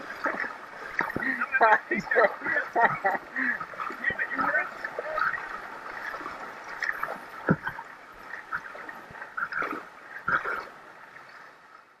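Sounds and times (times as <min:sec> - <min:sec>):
water splashing against kayak hull: 0:00.0 - 0:11.7.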